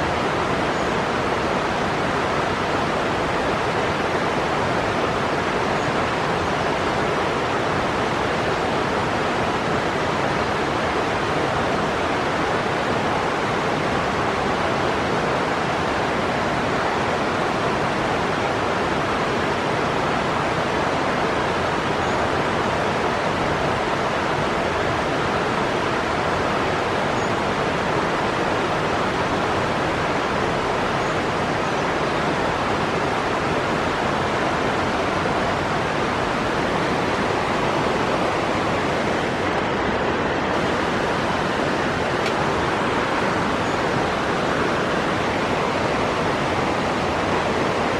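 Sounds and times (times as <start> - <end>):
steady rushing noise: 0.0 - 47.9.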